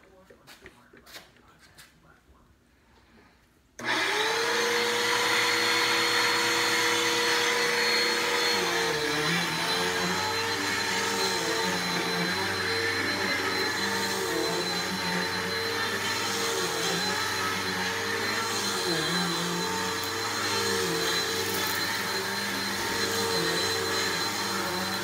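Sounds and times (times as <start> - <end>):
vacuum cleaner running: 3.8 - 25.0.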